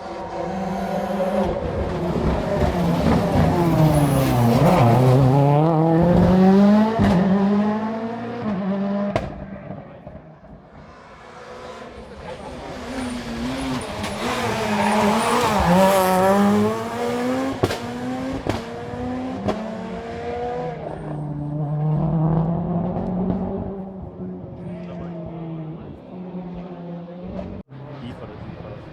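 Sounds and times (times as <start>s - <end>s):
rally car engine at full throttle: 0.0s - 28.9s.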